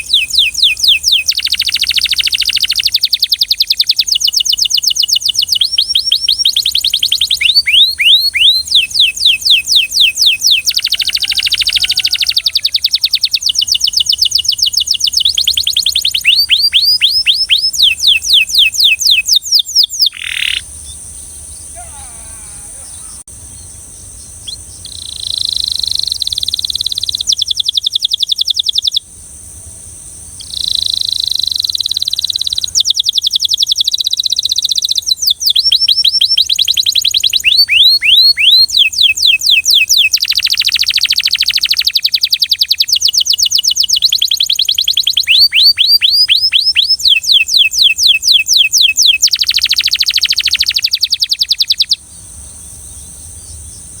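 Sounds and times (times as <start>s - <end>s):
canary singing: 0.0s - 29.0s, 30.4s - 52.0s.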